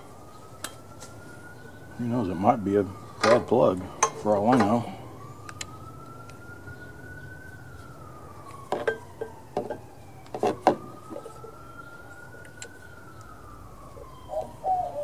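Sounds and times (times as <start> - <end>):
faint siren wailing: 0.0 - 15.0.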